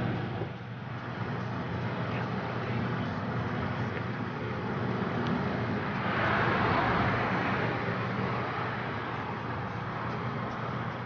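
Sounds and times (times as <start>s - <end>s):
low engine hum: 0.0s - 11.0s
road traffic noise: 0.0s - 11.0s
vehicle passing: 0.0s - 11.0s.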